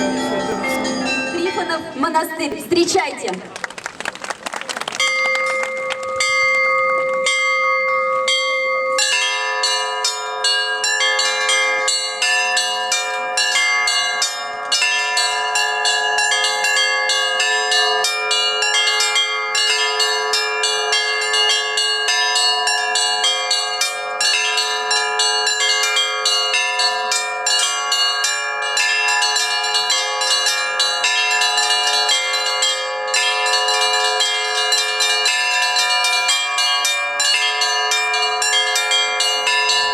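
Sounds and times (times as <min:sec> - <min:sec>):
church bells ringing: 0:00.0 - 0:02.5, 0:05.0 - 0:39.9.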